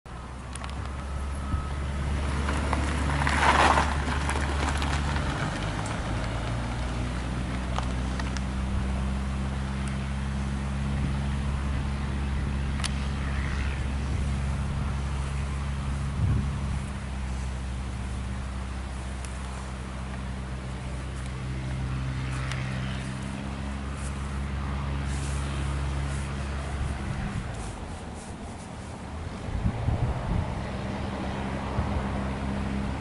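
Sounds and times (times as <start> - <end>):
light aircraft piston engine: 0.1 - 33.0.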